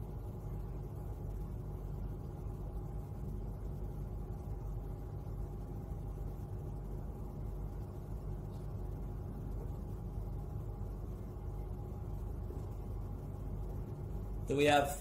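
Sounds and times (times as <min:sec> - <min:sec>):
faint even hum: 0:00.0 - 0:15.0.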